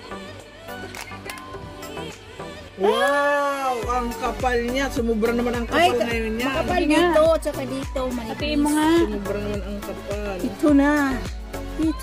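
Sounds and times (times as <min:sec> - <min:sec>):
background music over a beat: 0:00.0 - 0:12.0.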